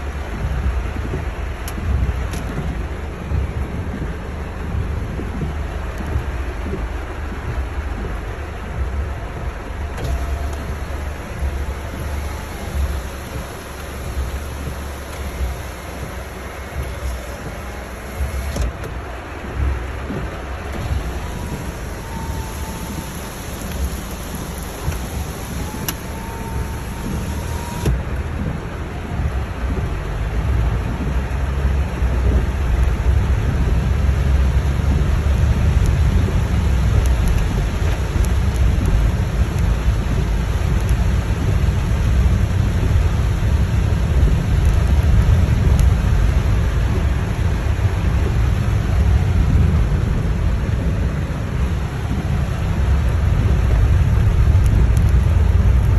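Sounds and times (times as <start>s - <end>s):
deep steady rumble: 0.0s - 55.9s
heavy rain on car: 0.0s - 55.9s.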